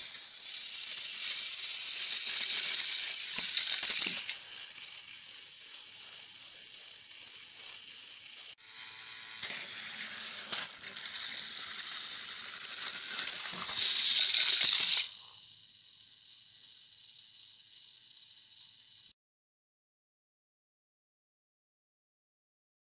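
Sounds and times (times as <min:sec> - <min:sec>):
plastic toy engines clacking: 0:00.0 - 0:19.2
toy train motors whirring: 0:00.0 - 0:19.2.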